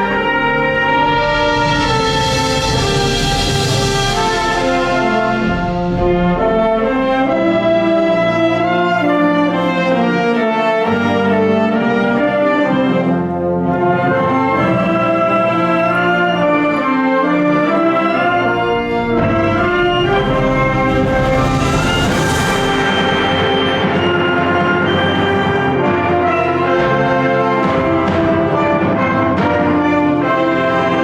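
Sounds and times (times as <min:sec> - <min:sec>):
brass sustained chords: 0:00.0 - 0:31.0
wind band playing: 0:00.0 - 0:31.0.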